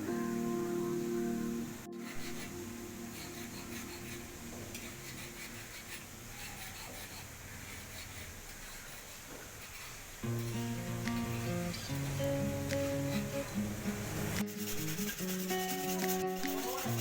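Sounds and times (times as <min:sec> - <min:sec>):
scratchy rubbing on knife blade: 0:01.9 - 0:13.5, 0:14.4 - 0:17.0.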